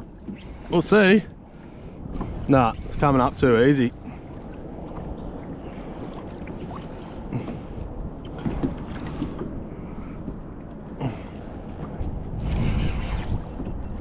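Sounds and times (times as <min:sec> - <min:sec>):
water sloshing against hull: 0:00.0 - 0:14.0
wind on microphone: 0:01.8 - 0:14.0.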